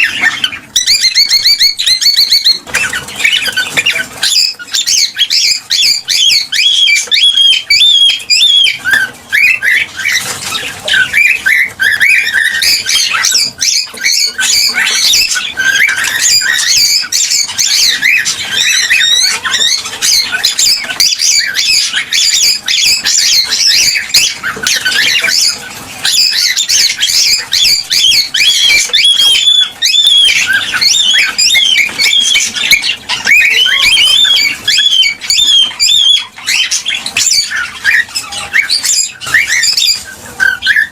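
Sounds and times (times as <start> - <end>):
cockatiels chirping and whistling: 0.0 - 40.9.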